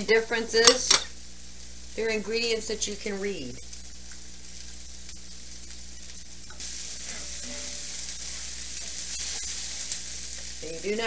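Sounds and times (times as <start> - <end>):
onions sizzling in skillet: 0.0 - 11.0.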